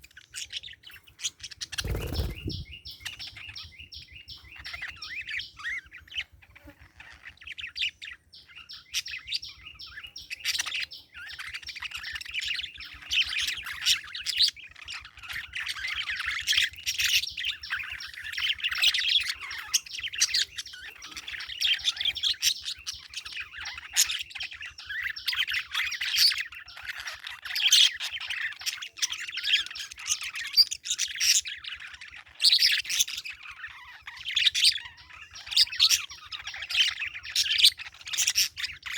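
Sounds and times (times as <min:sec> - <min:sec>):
parakeets chirping: 0:00.0 - 0:38.9.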